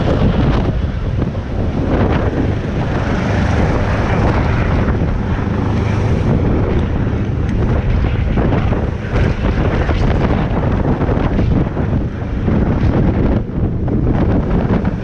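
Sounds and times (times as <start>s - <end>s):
helicopter running: 0.0s - 15.0s
wind buffeting microphone: 0.0s - 15.0s.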